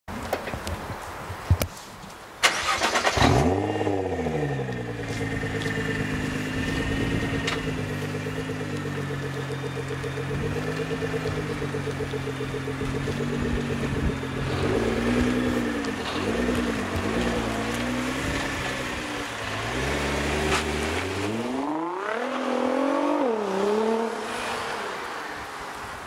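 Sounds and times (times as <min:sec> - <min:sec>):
engine throttle blips: 0:02.5 - 0:24.0
car engine revving and idling: 0:02.6 - 0:25.0.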